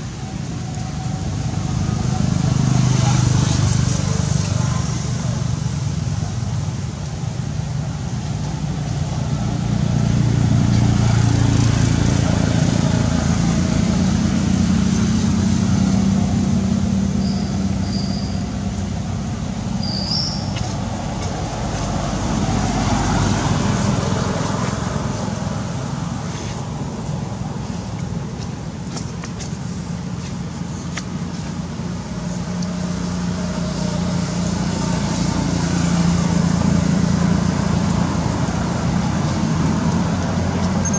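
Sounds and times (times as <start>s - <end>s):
vehicle engine rumble: 0.0s - 40.9s.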